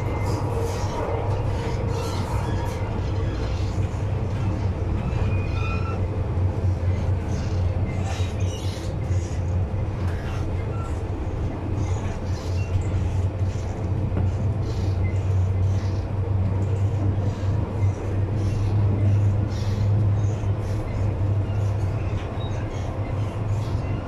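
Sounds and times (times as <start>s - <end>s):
train running along track: 0.0s - 24.0s.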